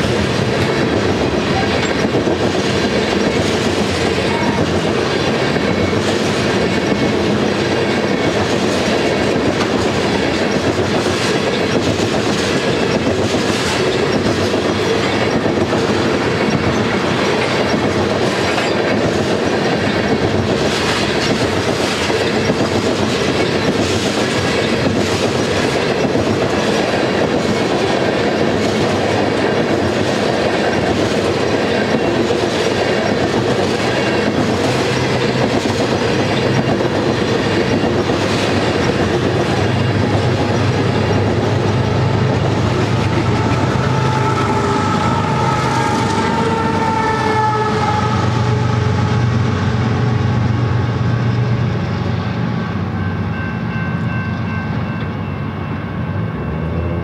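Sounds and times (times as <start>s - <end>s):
train wheels clattering over rail joints: 0.0s - 51.4s
locomotive engine hum: 0.0s - 57.0s.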